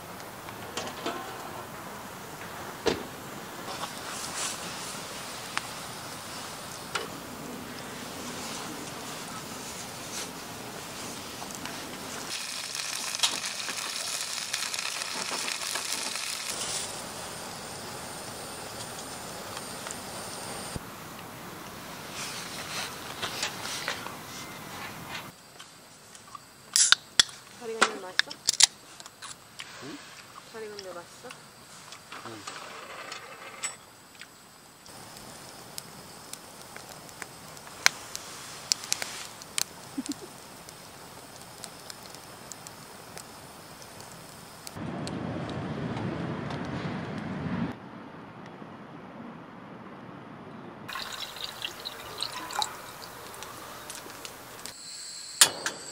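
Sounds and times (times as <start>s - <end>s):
campfire crackling: 0.0s - 32.9s, 33.8s - 47.4s, 50.9s - 55.9s.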